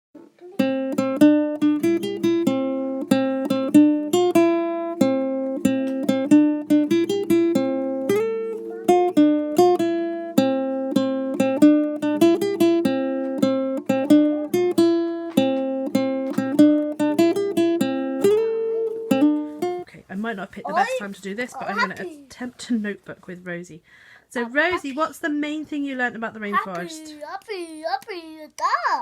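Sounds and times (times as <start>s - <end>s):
acoustic guitar tune: 0.2s - 23.0s, 23.9s - 28.5s.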